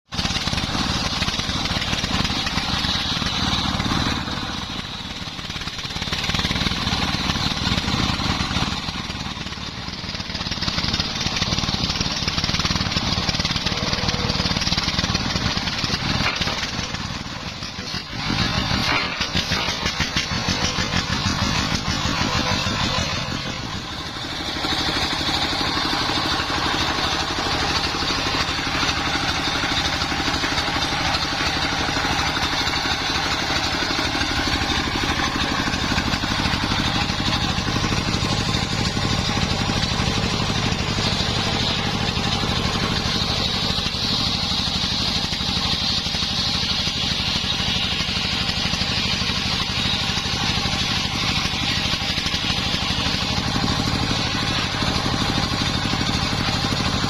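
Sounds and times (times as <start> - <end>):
engine running rapidly: 0.0 - 57.0
saw blade whining: 0.1 - 57.0.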